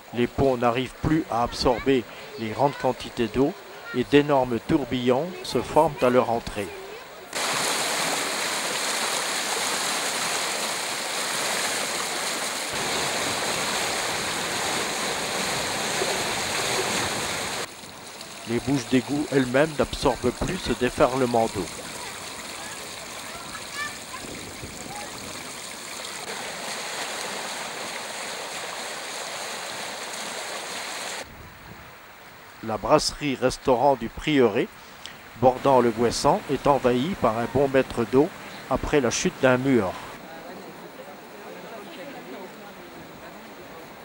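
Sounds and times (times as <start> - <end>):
floodwater rushing: 0.0 - 31.3, 34.0 - 41.0.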